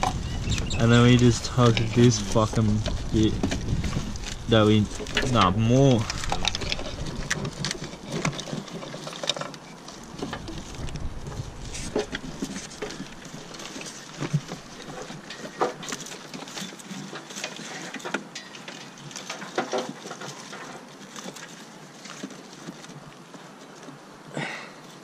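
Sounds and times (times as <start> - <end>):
wiring rustling: 0.0 - 24.0.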